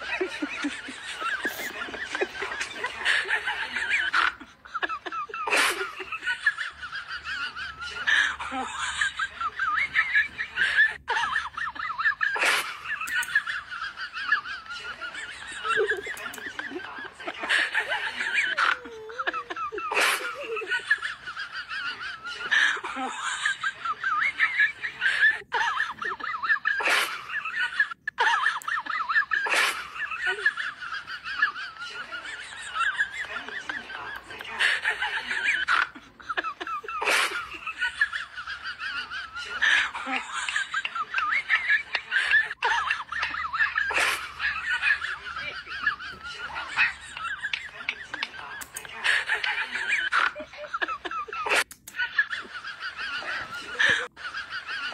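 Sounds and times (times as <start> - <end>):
people laughing: 0.0 - 54.9.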